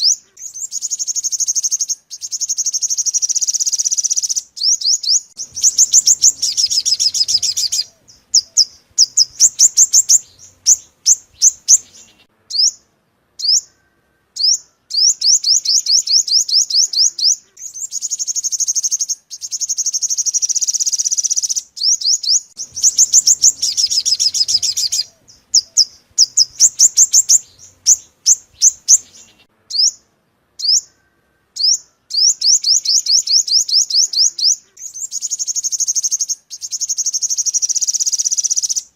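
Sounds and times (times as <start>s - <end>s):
sunbird trills and chirps: 0.0s - 38.9s.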